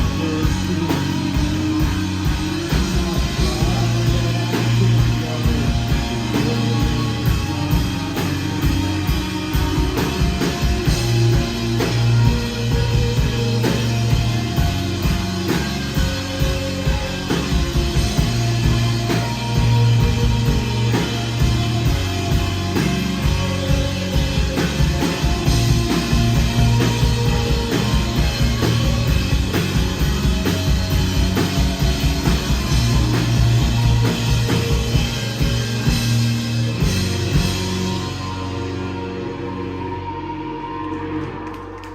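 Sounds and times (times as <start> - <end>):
fast dense drumming: 0.0 - 38.4
low guitar and bass notes: 0.0 - 41.9.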